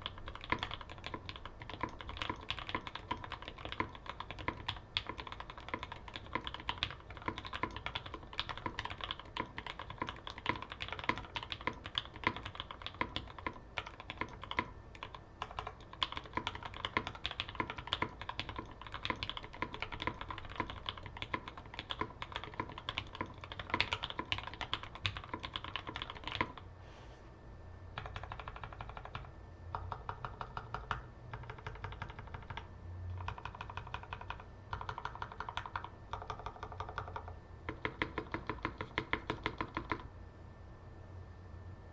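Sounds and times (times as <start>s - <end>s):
fast typing on mechanical keyboard: 0.0s - 26.6s, 28.0s - 40.1s.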